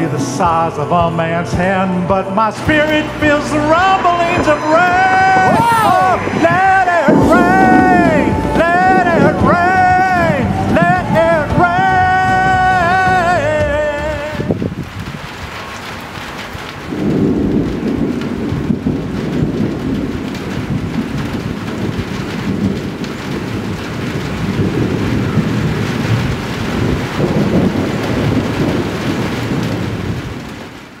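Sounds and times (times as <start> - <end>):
rain falling: 0.0 - 31.0
thunder rumbling: 1.6 - 31.0.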